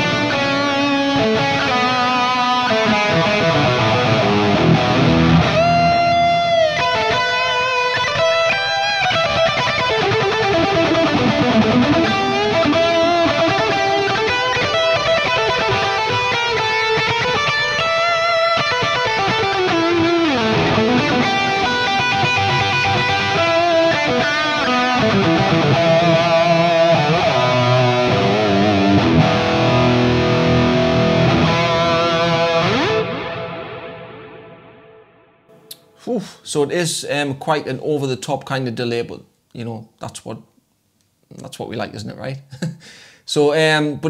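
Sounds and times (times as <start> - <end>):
electric guitar with delay: 0.0 - 35.6.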